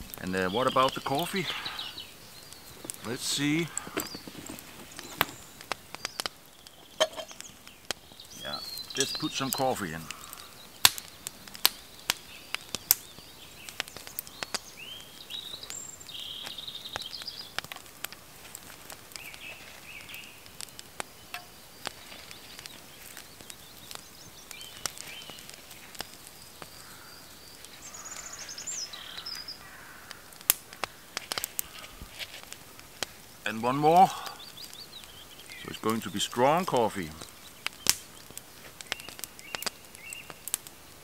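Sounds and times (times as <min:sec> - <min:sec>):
campfire crackling and popping: 0:00.0 - 0:41.0
small birds chirping: 0:00.0 - 0:41.0.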